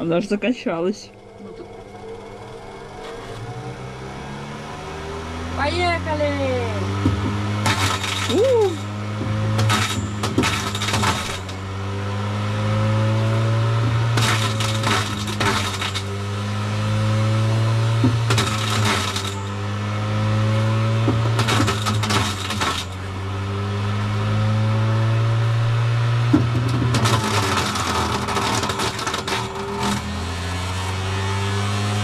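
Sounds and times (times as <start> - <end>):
electric grinder motor hum: 1.1 - 32.0.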